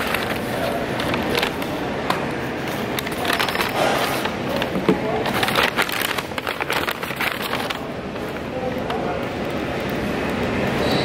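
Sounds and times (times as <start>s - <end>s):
indistinct crowd chatter: 0.0s - 11.0s.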